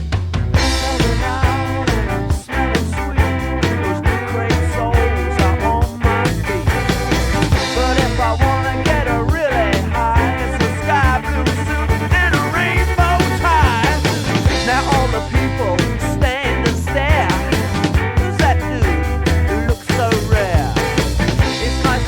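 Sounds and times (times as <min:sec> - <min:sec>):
upbeat rock song: 0:00.0 - 0:22.0
sliding lead line: 0:00.6 - 0:22.0.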